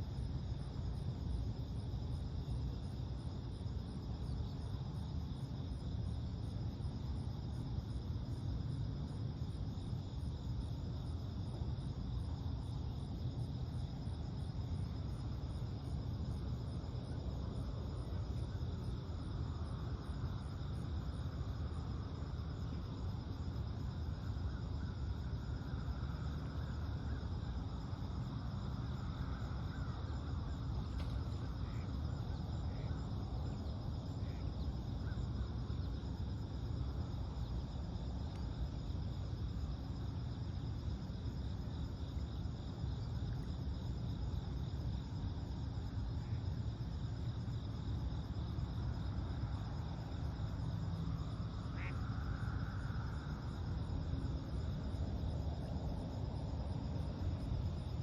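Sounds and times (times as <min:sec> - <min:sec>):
high insect trill: 0:00.0 - 0:58.0
steady low rumble: 0:00.0 - 0:58.0.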